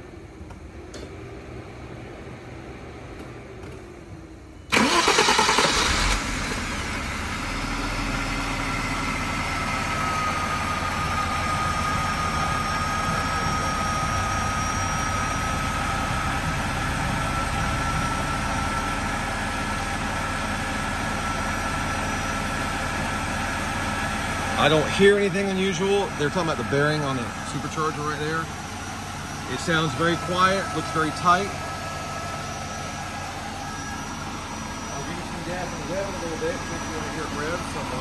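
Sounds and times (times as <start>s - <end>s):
car engine starting and idling: 0.0s - 38.0s
thin steady whine: 6.8s - 38.0s.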